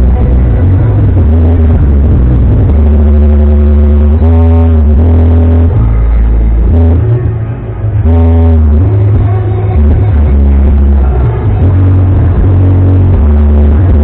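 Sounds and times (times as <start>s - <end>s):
distorted music with booming bass: 0.0s - 14.0s
melodic line bending notes: 0.0s - 14.0s.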